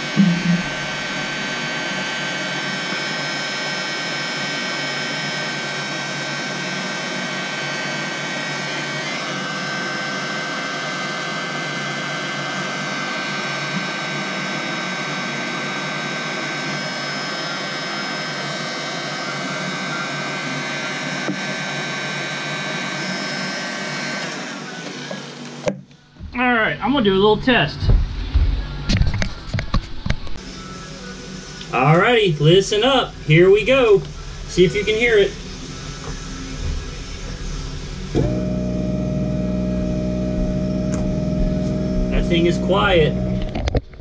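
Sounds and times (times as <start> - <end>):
heat gun blowing and whining: 0.0 - 26.5, 30.3 - 43.8.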